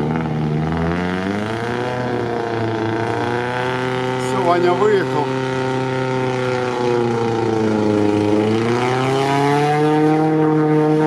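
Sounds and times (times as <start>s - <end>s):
off-road engine revving: 0.0s - 11.0s
steady engine drone: 0.0s - 11.0s.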